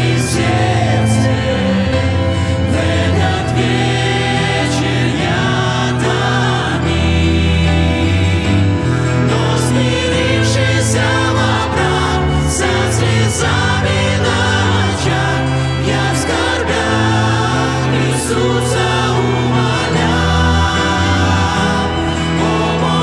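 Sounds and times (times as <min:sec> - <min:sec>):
double bass: 0:00.0 - 0:23.0
keyboard: 0:00.0 - 0:23.0
mixed choir singing a hymn: 0:00.0 - 0:23.0
violin: 0:00.0 - 0:23.0.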